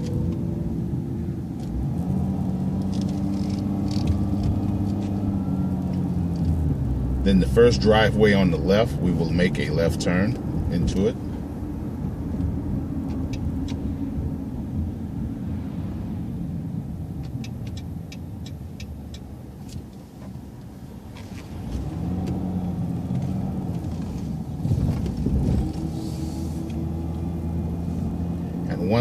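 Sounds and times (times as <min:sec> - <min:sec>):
bus engine drone: 0:00.0 - 0:29.0.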